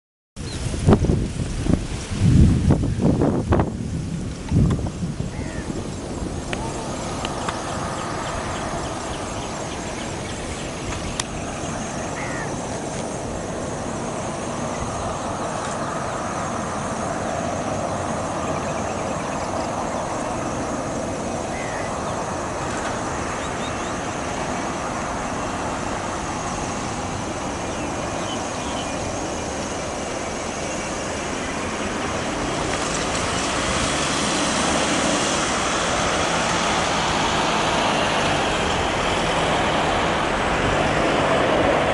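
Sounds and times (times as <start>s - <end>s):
jet engine rushing: 0.6s - 41.9s.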